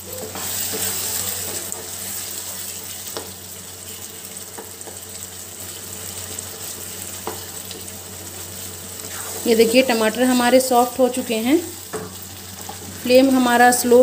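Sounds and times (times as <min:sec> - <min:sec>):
sauce sizzling and bubbling: 0:00.0 - 0:14.0.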